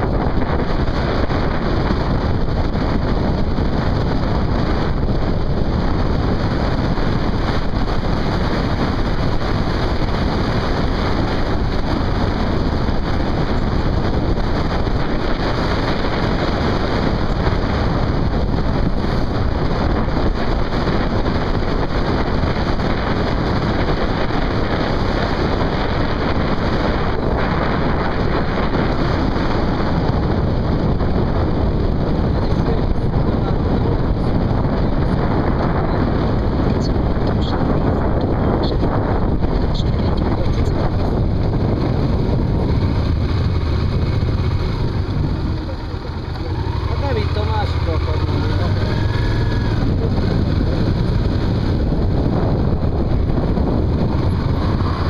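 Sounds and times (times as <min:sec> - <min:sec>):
motorcycle riding at speed: 0:00.0 - 0:55.0
wind noise on microphone: 0:00.0 - 0:55.0.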